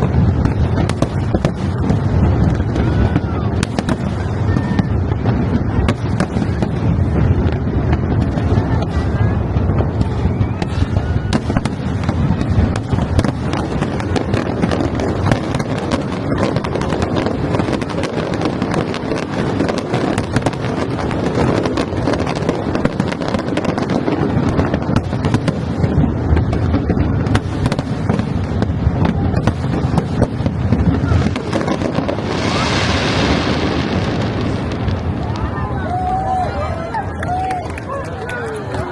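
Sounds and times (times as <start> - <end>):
hissing crackle: 0.0 - 36.4
crowd voices: 0.0 - 38.9
fireworks bursting and crackling: 0.0 - 38.9.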